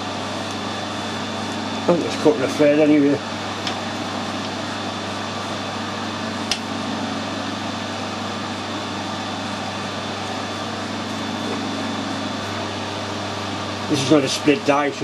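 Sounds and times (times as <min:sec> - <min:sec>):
fan motor hum: 0:00.0 - 0:15.0.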